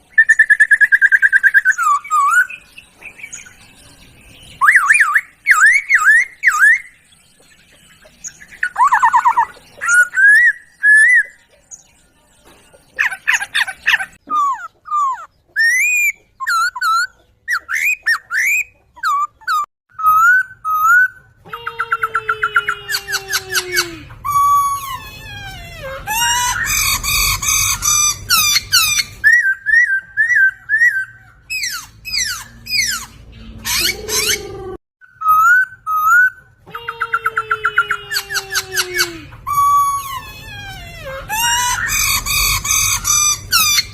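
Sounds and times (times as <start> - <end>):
bird singing whistled phrases: 0.0 - 7.2, 8.2 - 12.0, 13.0 - 25.1, 26.1 - 33.1, 33.7 - 40.2
bird chattering: 0.0 - 43.9.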